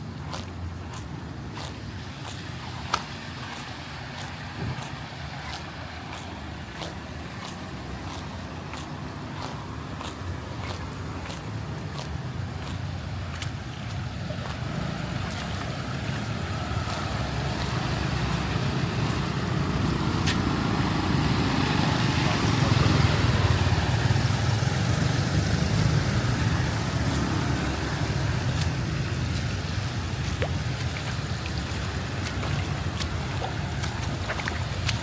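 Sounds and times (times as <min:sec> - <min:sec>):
vehicle engine rumble: 0:00.0 - 0:35.0
water swishing: 0:00.0 - 0:35.0.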